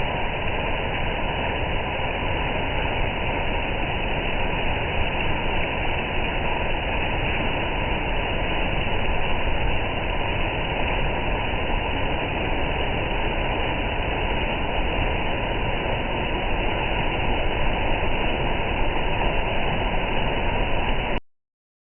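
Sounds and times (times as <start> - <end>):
waterfall roaring: 0.0 - 21.2.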